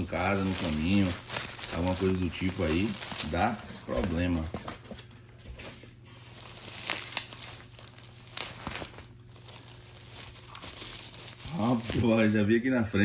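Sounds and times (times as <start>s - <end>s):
bubble wrap crinkling and tearing: 0.0s - 12.6s.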